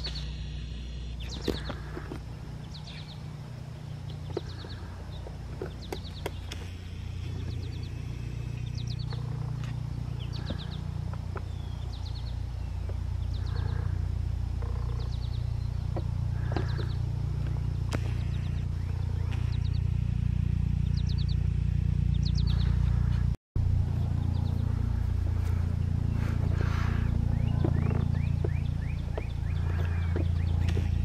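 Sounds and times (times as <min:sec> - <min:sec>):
low rumble: 0:00.0 - 0:31.0
songbird chirping trill: 0:00.0 - 0:31.0.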